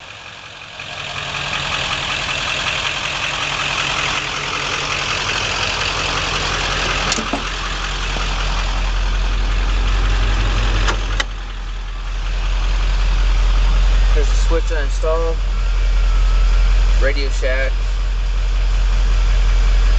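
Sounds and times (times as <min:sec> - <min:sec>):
diesel engine droning: 0:00.0 - 0:19.9.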